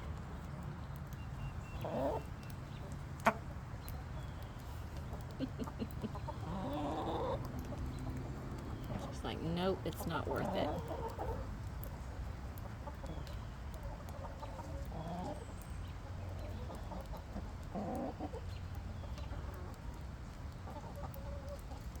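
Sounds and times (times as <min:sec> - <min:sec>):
rain: 0:00.0 - 0:22.0
hens clucking: 0:01.4 - 0:21.9.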